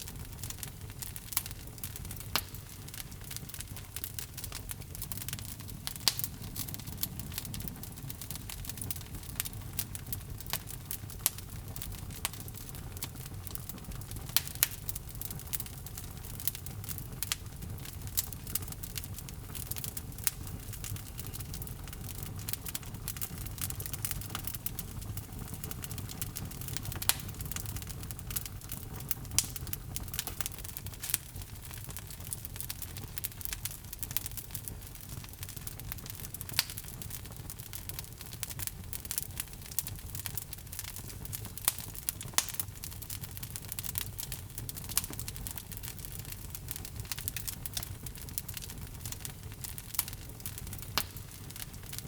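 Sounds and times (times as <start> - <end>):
logs burning in a fireplace: 0.0 - 52.0.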